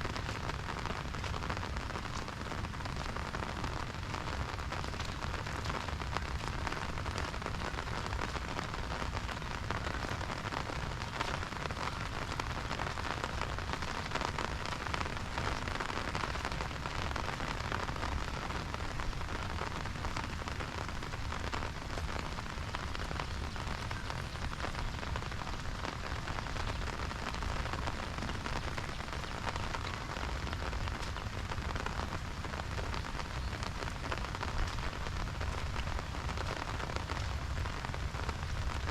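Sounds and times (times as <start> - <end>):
rain falling on an umbrella: 0.0 - 38.9.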